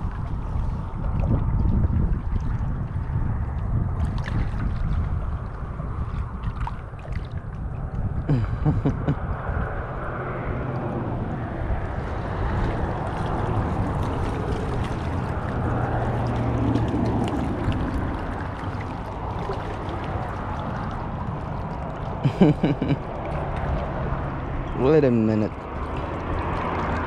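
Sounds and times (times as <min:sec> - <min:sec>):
wind noise on microphone: 0:00.0 - 0:25.0
water lapping: 0:00.0 - 0:27.0.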